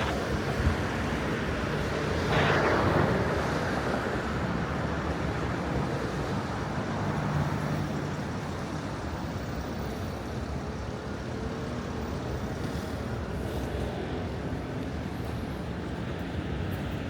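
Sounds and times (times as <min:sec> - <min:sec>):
cars and buses passing: 0:00.0 - 0:17.0.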